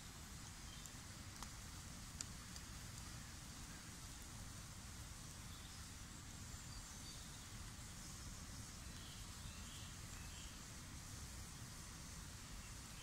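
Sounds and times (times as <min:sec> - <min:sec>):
campfire burning: 0:00.0 - 0:13.0.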